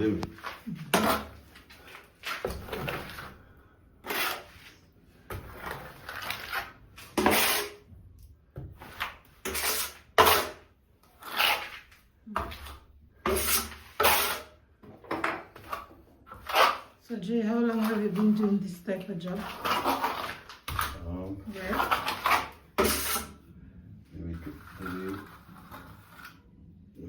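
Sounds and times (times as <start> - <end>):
trowel scraping wet plaster: 0.0 - 7.9, 8.7 - 14.6, 15.5 - 17.0, 19.3 - 23.4, 24.3 - 26.6.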